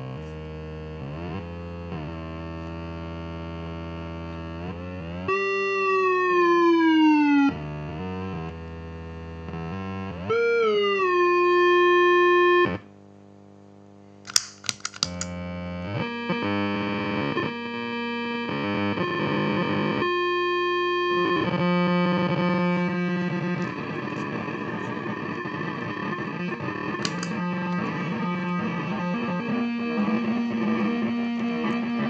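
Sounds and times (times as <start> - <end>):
distorted electronic feedback drone: 0.0 - 12.9, 15.1 - 32.0.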